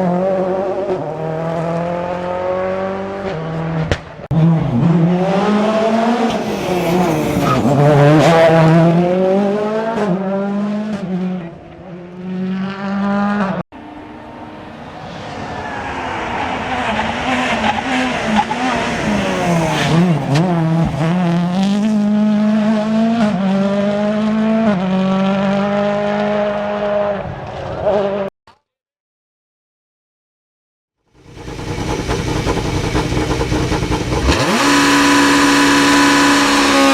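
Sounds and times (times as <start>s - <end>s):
rally car engine revving: 0.0s - 28.3s, 31.2s - 36.9s.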